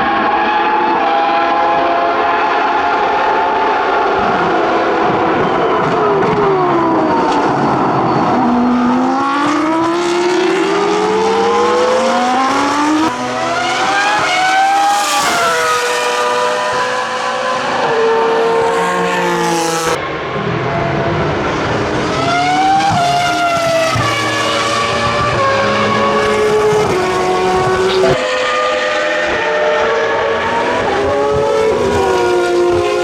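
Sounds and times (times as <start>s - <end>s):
race car engines at high revs: 0.0s - 33.0s.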